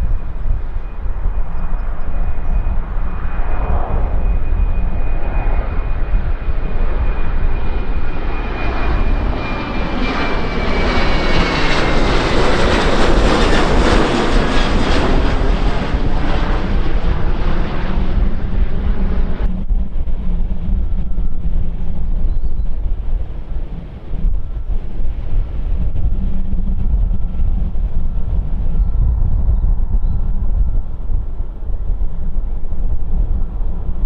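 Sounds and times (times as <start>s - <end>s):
jet engine whine: 0.0s - 34.0s
low engine rumble: 0.0s - 34.0s.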